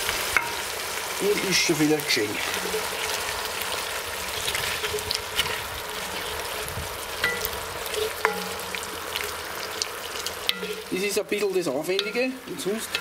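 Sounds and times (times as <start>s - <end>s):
wine and vegetables sizzling: 0.0s - 13.0s.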